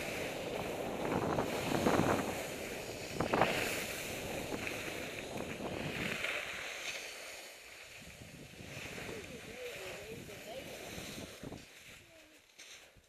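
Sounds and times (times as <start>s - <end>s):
wind on microphone: 0.0s - 6.7s, 7.8s - 12.2s
skis scraping over snow: 0.0s - 13.0s.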